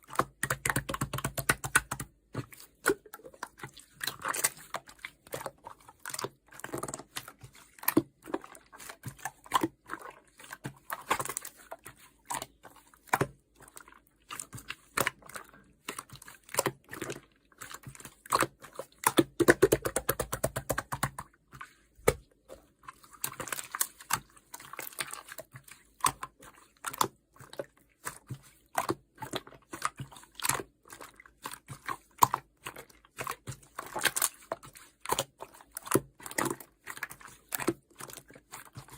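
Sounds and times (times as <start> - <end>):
slime squishing by hand: 0.0 - 38.9.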